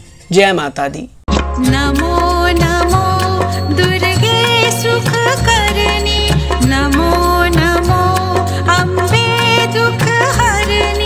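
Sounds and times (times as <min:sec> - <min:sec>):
background music with bass and percussion: 0:01.3 - 0:11.0.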